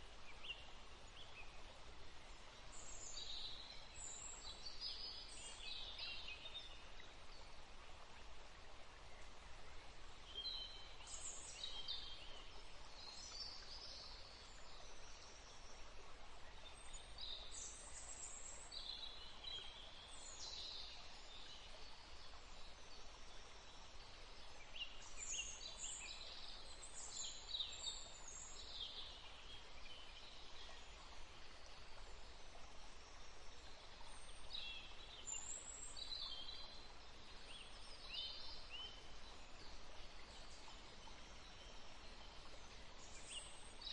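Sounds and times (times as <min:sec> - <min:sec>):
outdoor ambient hiss: 0:00.0 - 0:43.9.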